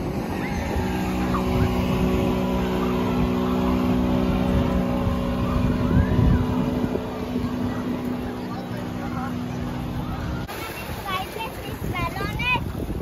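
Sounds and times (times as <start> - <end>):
motorboat engine running: 0.0 - 13.0
wind and water rumble: 0.0 - 13.0.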